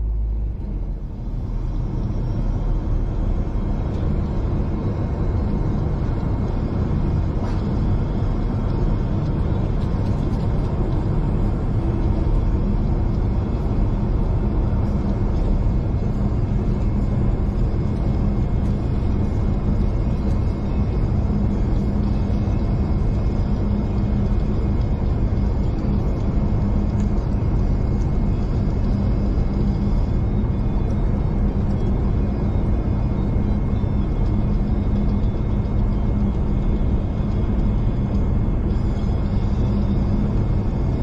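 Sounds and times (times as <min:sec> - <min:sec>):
train rumble inside carriage: 0:00.0 - 0:41.0.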